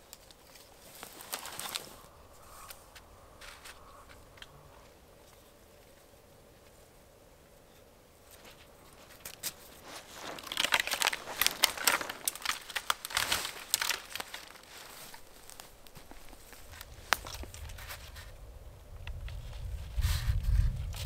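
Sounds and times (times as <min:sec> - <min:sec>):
tarp fabric rustling and crinkling: 0:00.0 - 0:06.1, 0:08.2 - 0:21.0.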